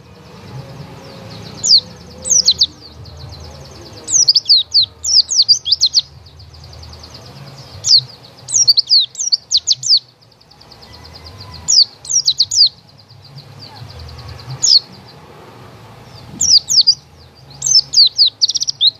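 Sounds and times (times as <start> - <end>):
songbird chirping: 0.0 - 18.9.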